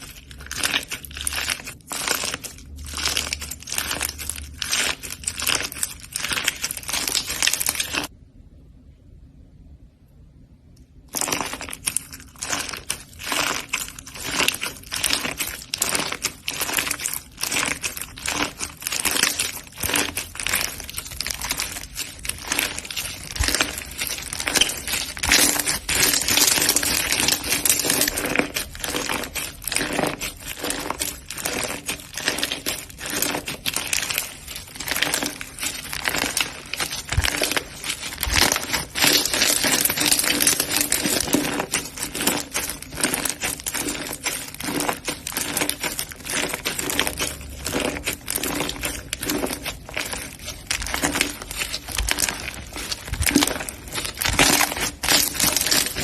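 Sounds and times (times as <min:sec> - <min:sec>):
slime crackling and popping: 0:00.0 - 0:08.1, 0:11.0 - 0:56.0.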